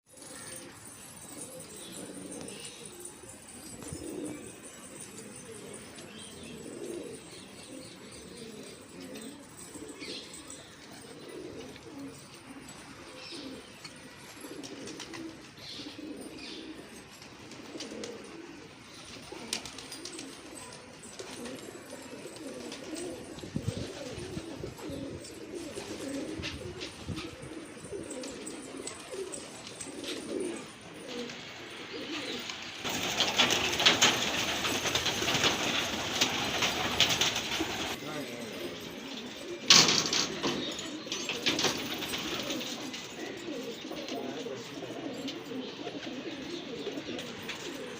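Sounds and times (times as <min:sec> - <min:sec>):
pigeons cooing: 0:00.1 - 0:47.9.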